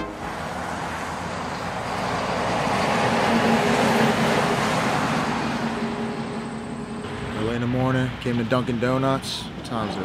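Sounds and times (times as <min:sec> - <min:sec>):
tyres and wind road noise: 0:00.0 - 0:10.0.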